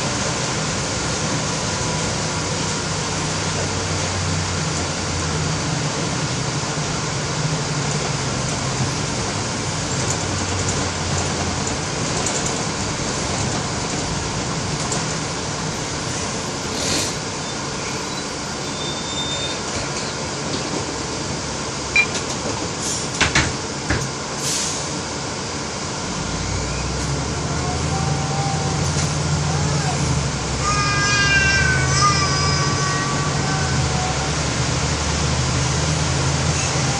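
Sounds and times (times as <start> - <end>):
bus engine and road noise: 0.0 - 36.9.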